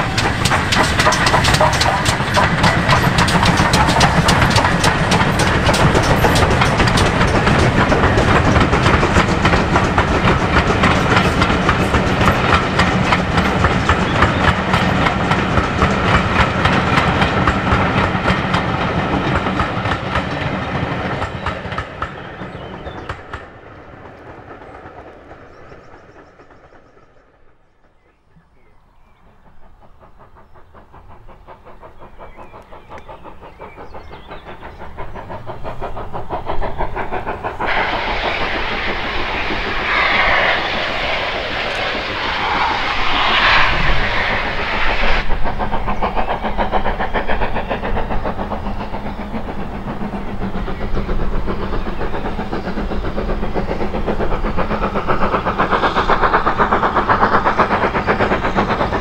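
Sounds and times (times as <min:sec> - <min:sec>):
loud hiss of steam: 0:00.0 - 0:22.8, 0:29.6 - 0:59.0
steam locomotive exhaust beats: 0:00.0 - 0:59.0.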